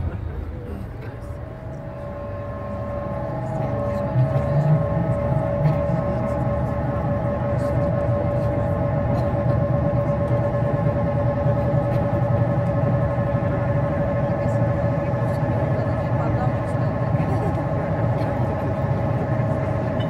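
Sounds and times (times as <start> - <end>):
low rumble: 0.0 - 19.8
siren-like electronic drone: 1.0 - 20.0.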